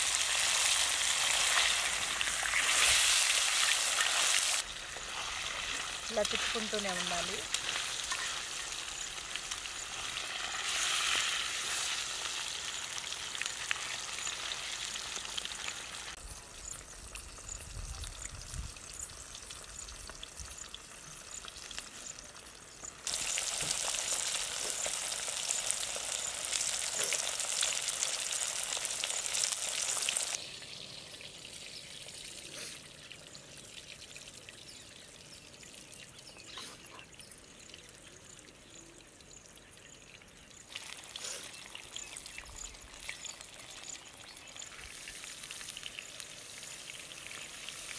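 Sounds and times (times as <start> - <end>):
fish sizzling in hot oil: 0.0 - 36.4, 40.3 - 47.9.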